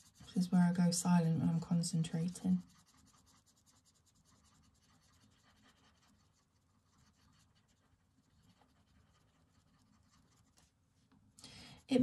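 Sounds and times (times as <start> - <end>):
pencil scratching on paper: 0.0 - 10.8.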